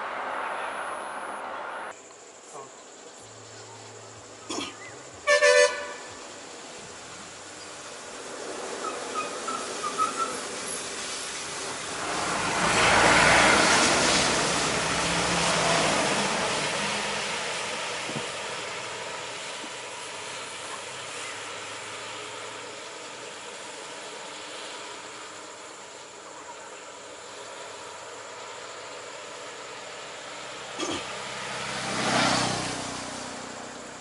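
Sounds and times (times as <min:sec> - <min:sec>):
bus driving past: 0:00.0 - 0:02.0, 0:03.2 - 0:34.0
traffic hiss on wet road: 0:00.0 - 0:34.0.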